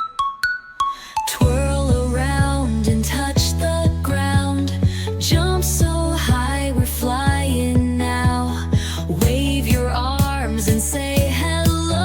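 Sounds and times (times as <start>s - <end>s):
kick drum beating: 1.4s - 11.9s
steady bass line: 1.4s - 12.0s.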